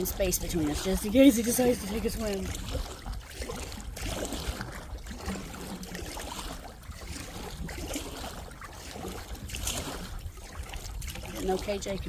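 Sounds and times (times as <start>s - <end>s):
paddle strokes in water: 0.0s - 12.0s
water dripping off paddle: 0.0s - 12.0s.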